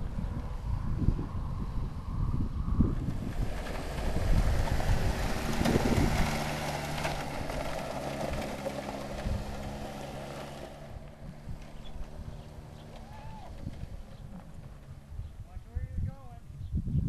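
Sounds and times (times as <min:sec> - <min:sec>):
quad bike engine running: 0:00.0 - 0:15.4
wind rumble on microphone: 0:00.0 - 0:17.0.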